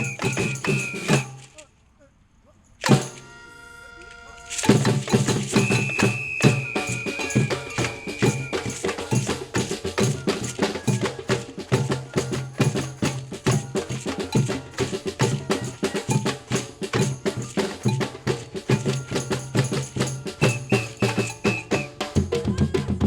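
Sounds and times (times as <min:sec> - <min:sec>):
percussion ensemble groove: 0:00.0 - 0:01.7, 0:02.7 - 0:23.0.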